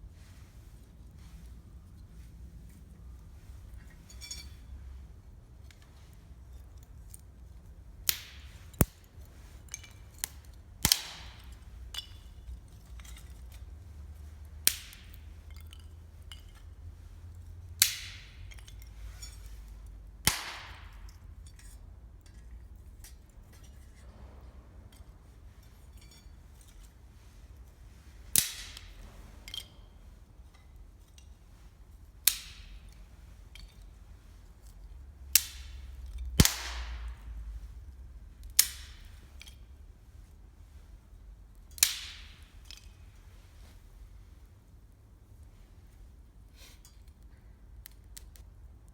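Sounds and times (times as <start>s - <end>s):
low steady rumble: 0.0s - 46.4s.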